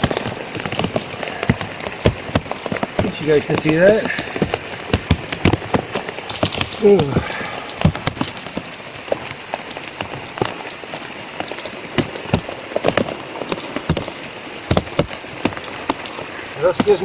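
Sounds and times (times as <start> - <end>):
heavy rain falling: 0.0 - 17.0
raindrops tapping close by: 0.0 - 17.0.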